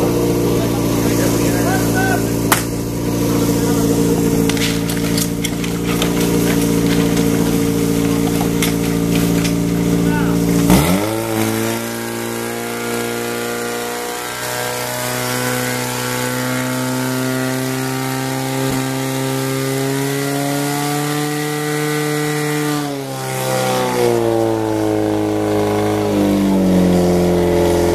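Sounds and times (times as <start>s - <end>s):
fire pump engine running hard: 0.0s - 27.9s.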